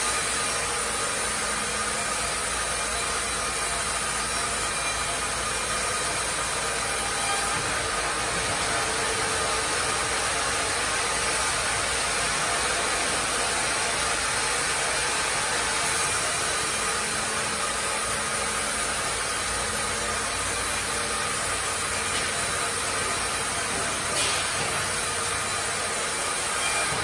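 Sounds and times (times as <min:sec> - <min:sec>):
sawmill machinery hissing and humming: 0:00.0 - 0:27.0.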